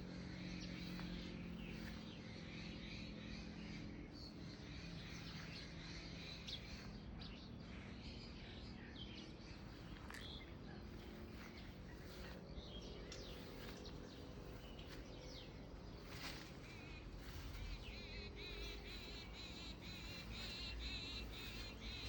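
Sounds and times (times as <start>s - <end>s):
birds chirping: 0.0s - 22.0s
low background noise: 0.0s - 22.0s.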